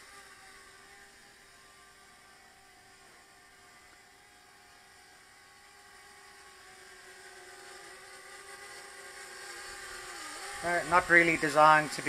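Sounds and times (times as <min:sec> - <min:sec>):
small drone motors whining: 0:00.0 - 0:12.0.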